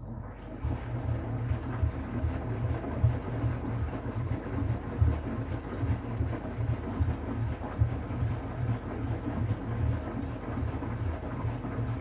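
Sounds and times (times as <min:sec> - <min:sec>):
water sloshing inside drum: 0:00.6 - 0:12.0.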